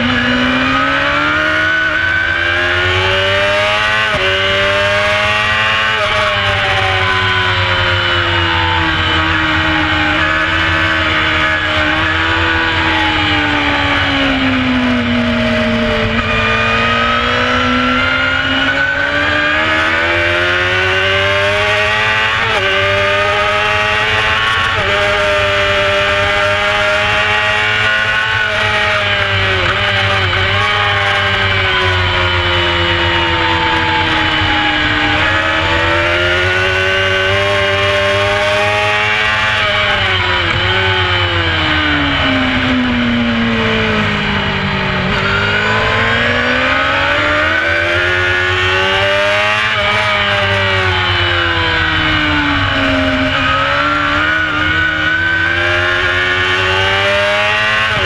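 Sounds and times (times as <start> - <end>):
motorcycle engine racing: 0.0 - 58.0.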